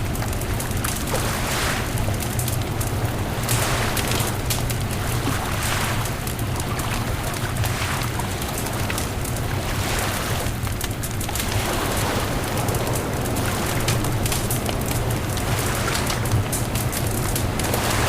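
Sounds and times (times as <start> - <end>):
bonfire crackling and popping: 0.0 - 18.0
wind: 0.0 - 18.0
surf: 0.6 - 18.0.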